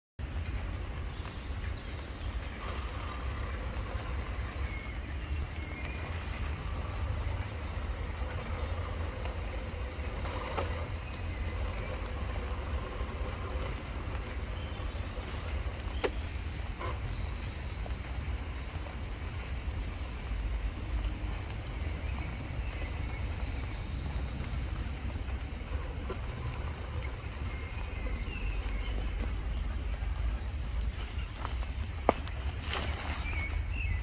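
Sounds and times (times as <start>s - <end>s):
rain: 0.2s - 34.0s.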